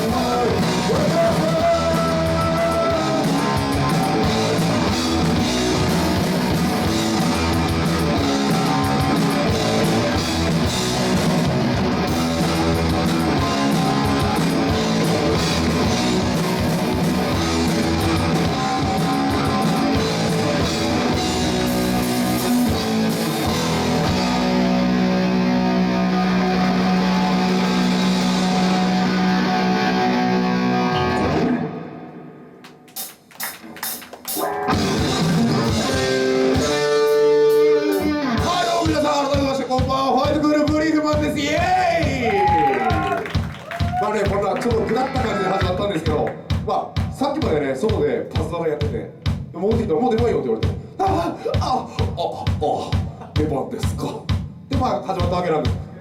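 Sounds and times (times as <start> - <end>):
live rock band playing: 0.0 - 49.5.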